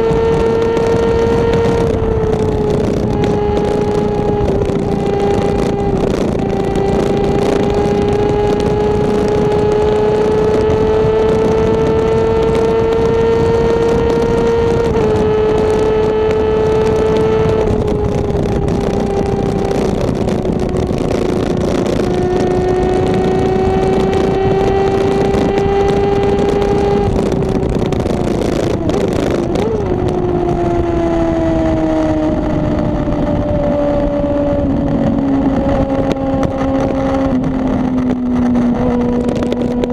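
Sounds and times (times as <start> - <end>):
motorcycle engine at speed: 0.0 - 39.9
wind noise on microphone: 0.0 - 39.9.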